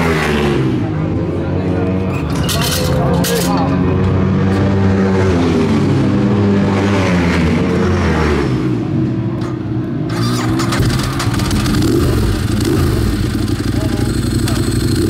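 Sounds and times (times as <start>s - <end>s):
motorcycle engine at racing revs: 0.0s - 1.9s, 3.3s - 9.3s, 10.0s - 15.0s.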